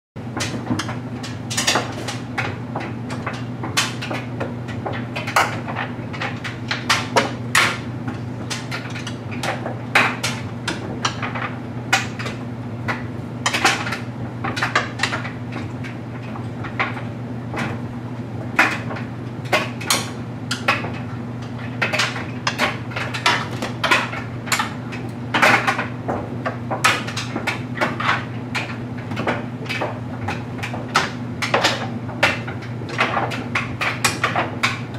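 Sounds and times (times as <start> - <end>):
clothes dryer humming: 0.2 - 34.9
load knocking in dryer drum: 0.2 - 34.9.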